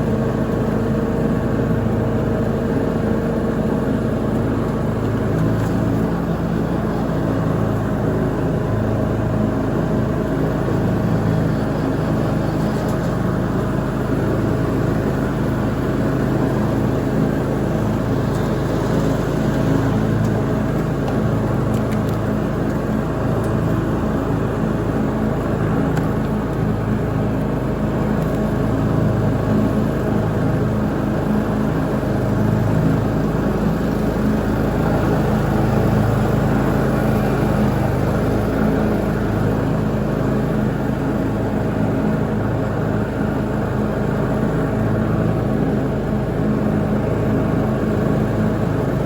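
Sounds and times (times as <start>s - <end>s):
lawn mower engine running: 0.0s - 49.0s.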